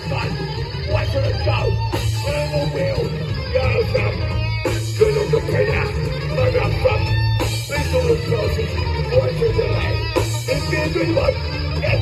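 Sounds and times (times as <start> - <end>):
bass guitar: 0.0 - 12.0
distorted electric guitar: 0.0 - 12.0
drums: 0.0 - 12.0
man shouting and singing: 0.0 - 12.0.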